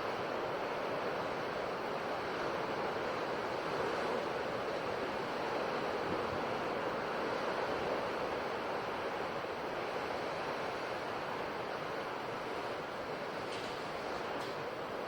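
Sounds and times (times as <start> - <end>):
ocean surf washing on shore: 0.0 - 15.0.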